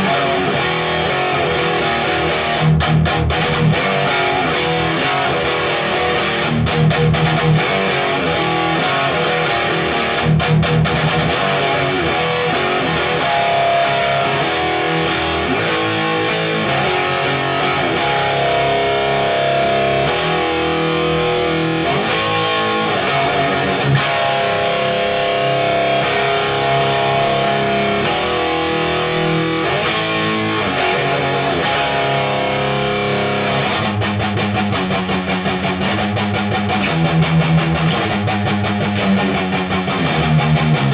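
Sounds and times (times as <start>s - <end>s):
distorted electric guitar metal riff: 0.0s - 40.9s.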